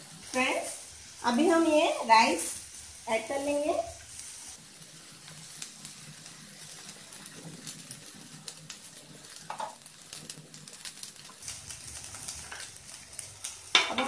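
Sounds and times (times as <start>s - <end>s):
rice and vegetables sizzling in oil: 0.0s - 14.0s.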